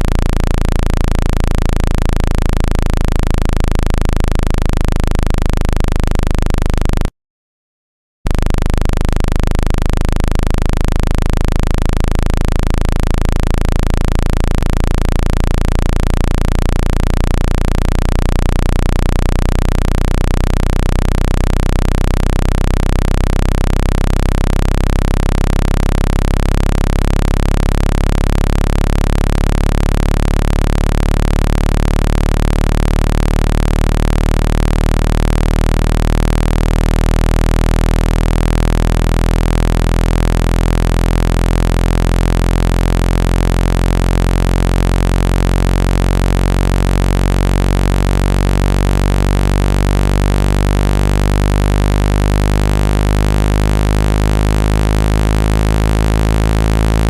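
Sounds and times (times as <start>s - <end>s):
low-pitched synthesized hum: 0.0s - 7.1s, 8.3s - 57.0s.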